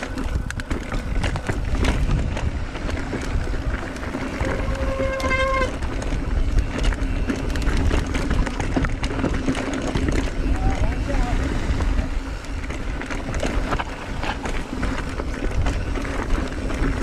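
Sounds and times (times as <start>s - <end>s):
bike rattling and knocking: 0.0s - 17.0s
bike tyres rumbling on rock: 0.0s - 17.0s
wind on microphone: 0.0s - 17.0s.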